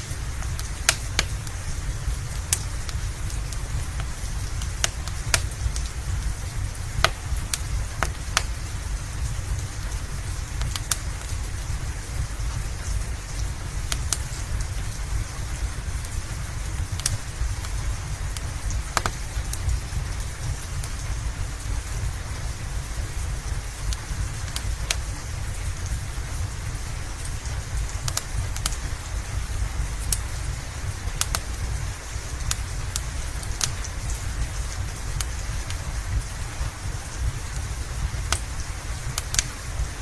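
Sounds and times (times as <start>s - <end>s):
steady rain: 0.0s - 40.0s
wood fire crackling: 0.0s - 40.0s.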